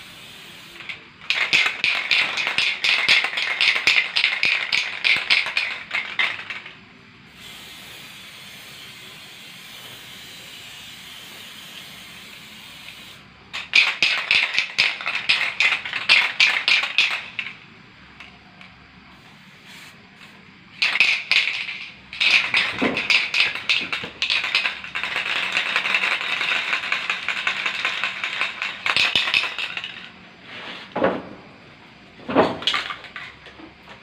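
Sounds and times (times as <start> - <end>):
spray-paint can hissing: 0.0 - 6.6, 7.3 - 17.3, 19.1 - 30.0.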